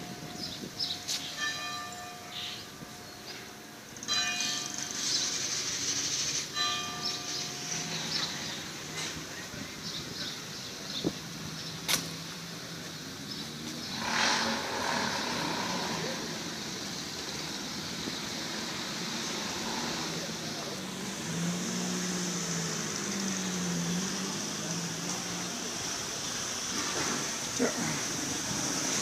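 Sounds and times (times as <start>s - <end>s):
background traffic noise: 0.0s - 29.0s
car passing: 0.0s - 29.0s.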